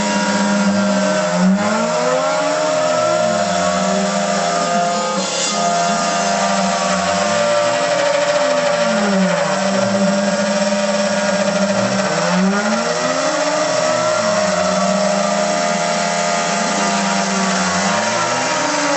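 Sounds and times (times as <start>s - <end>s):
motors whining: 0.0s - 18.9s
router spindle cutting wood: 0.0s - 18.9s.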